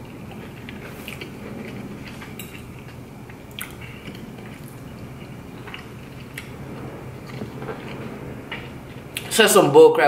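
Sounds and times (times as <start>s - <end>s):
chewing food: 0.0s - 9.3s
low hum: 0.0s - 10.0s.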